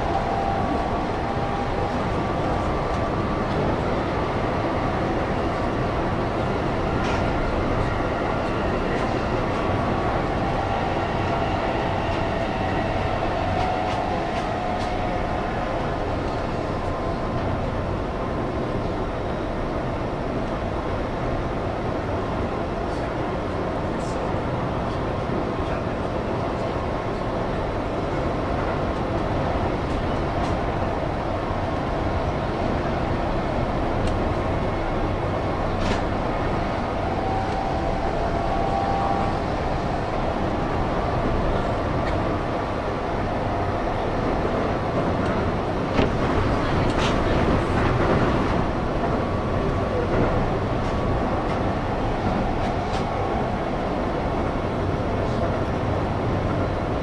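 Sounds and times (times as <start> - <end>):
electric train rumbling at speed: 0.0 - 57.0.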